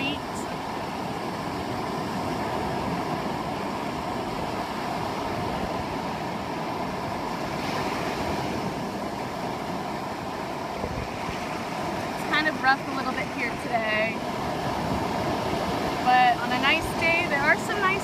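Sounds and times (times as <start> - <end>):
ocean surf washing: 0.0 - 18.0
wind noise on microphone: 0.0 - 18.0.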